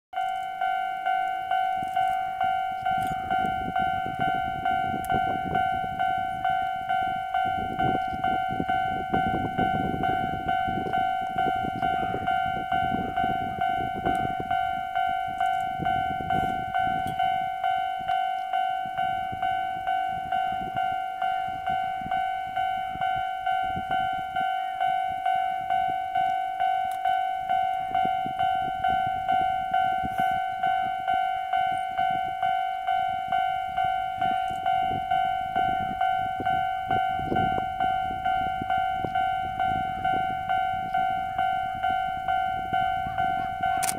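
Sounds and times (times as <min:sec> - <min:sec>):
level-crossing warning bell ringing: 0:00.1 - 0:43.9.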